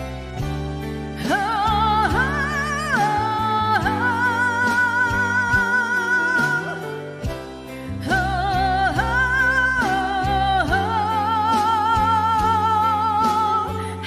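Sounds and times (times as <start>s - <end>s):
backing track with beat and bass: 0.0s - 14.0s
woman singing with vibrato: 1.1s - 14.0s.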